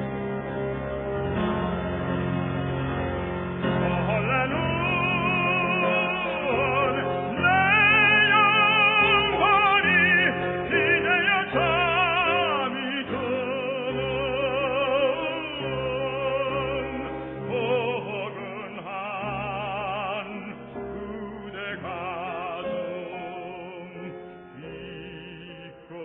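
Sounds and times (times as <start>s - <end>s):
instrumental accompaniment: 0.0s - 25.9s
operatic tenor singing: 3.6s - 26.0s.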